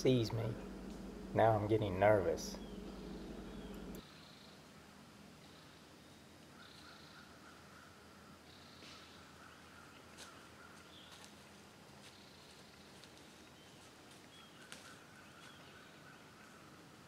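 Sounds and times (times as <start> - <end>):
faint bird chirps: 2.0 - 11.2, 12.1 - 16.8.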